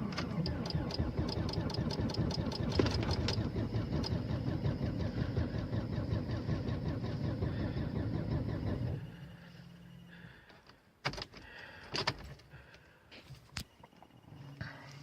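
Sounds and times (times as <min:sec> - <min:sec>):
car engine starting and idling: 0:00.0 - 0:12.5.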